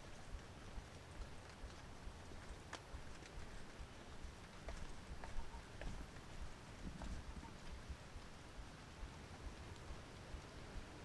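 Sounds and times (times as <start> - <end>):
footsteps on wet asphalt: 0.0 - 11.0
raindrops ticking: 0.0 - 11.0.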